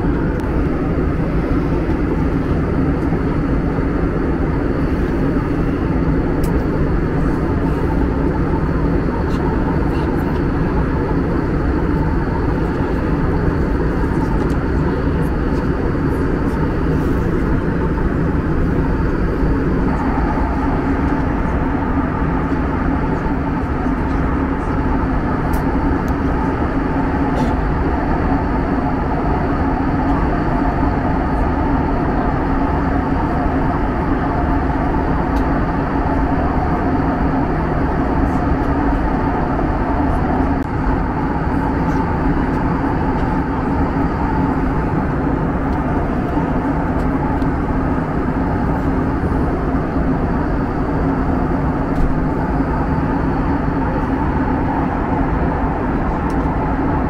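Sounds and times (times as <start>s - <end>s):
airliner cabin engine rush: 0.0s - 57.0s.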